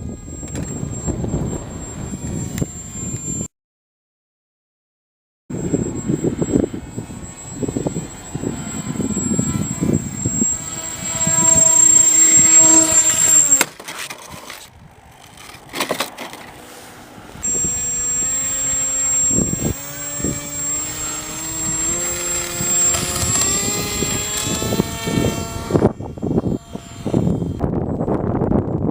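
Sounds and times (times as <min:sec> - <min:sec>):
model plane propeller motor whining: 0:00.0 - 0:03.5, 0:05.5 - 0:28.1.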